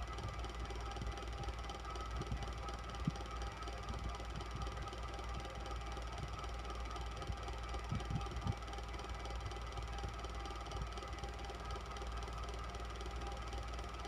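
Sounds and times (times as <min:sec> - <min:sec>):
electric fan whirring: 0:00.0 - 0:14.0.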